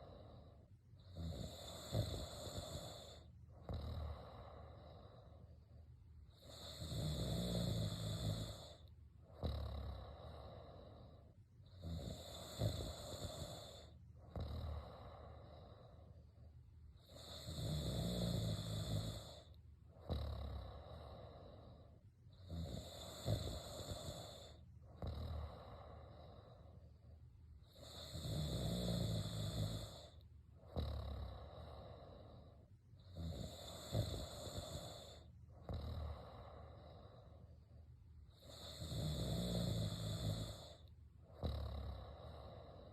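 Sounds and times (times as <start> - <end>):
person snoring: 0.0 - 5.5, 6.3 - 16.2, 17.0 - 27.0, 27.7 - 37.5, 38.3 - 42.9
soft breath: 0.0 - 17.6, 18.2 - 42.9.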